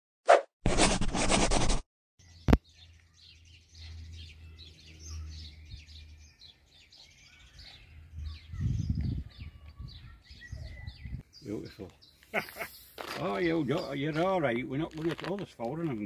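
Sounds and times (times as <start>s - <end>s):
small birds chirping: 2.2s - 16.0s.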